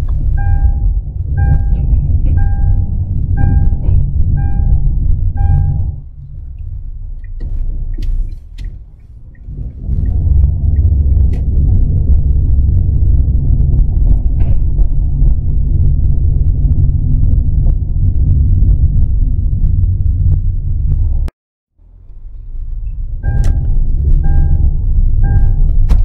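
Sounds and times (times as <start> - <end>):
car engine rumble from inside: 0.0 - 26.0.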